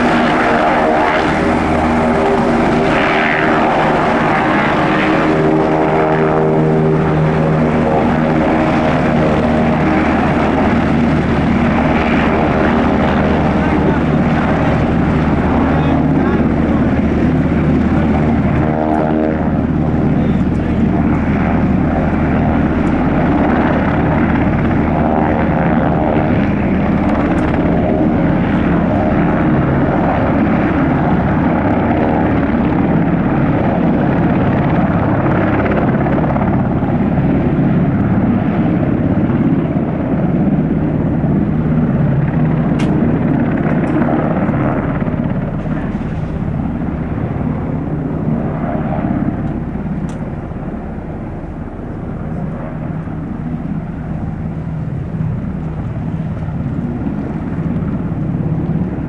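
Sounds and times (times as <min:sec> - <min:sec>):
helicopter rotor and turbine drone: 0:00.0 - 0:59.0.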